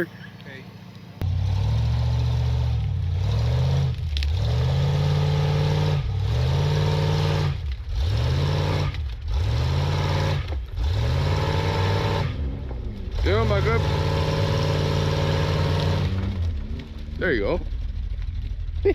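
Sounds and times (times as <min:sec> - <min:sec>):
truck engine revving: 0:00.0 - 0:18.9.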